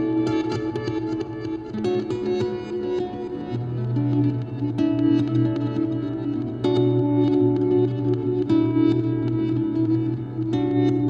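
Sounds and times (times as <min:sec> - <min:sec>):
fingerpicked acoustic guitar: 0:00.0 - 0:11.0.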